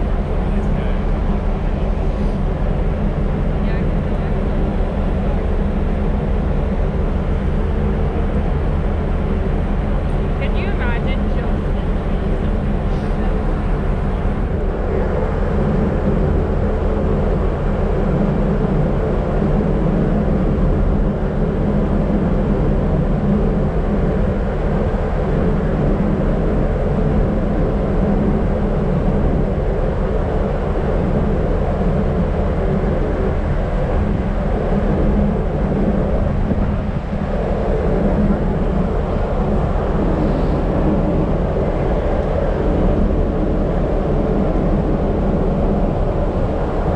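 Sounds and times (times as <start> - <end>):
ship engines droning: 0.0 - 46.9.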